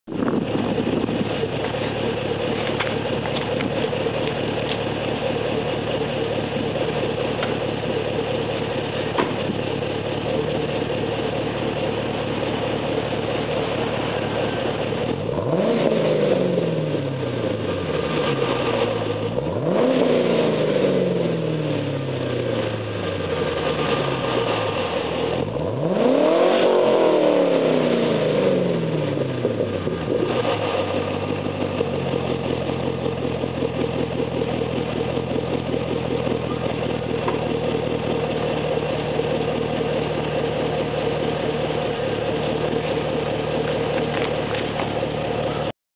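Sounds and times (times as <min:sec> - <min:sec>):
car engine idling and revving: 0:00.0 - 0:45.7.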